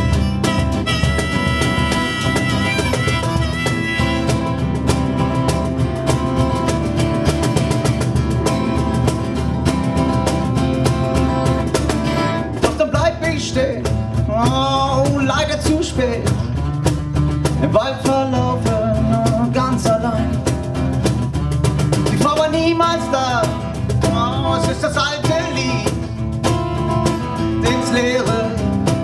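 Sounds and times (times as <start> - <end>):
acoustic guitar strumming: 0.0 - 29.0
bongos: 0.0 - 29.0.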